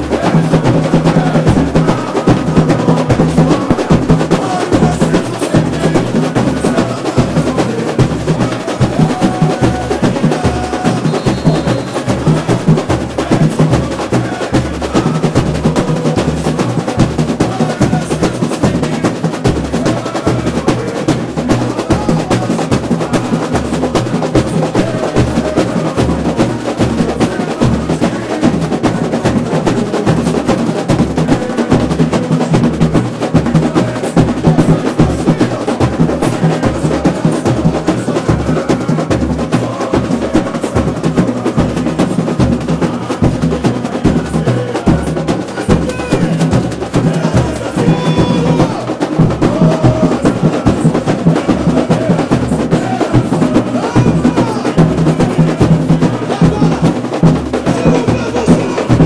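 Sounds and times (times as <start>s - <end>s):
bass drums pulsing: 0.0s - 59.0s
snare drums rolling: 0.0s - 59.0s.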